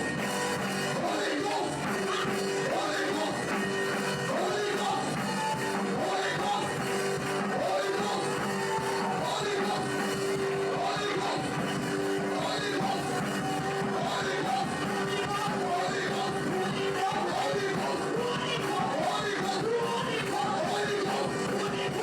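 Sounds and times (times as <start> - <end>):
voices singing: 0.0 - 22.0.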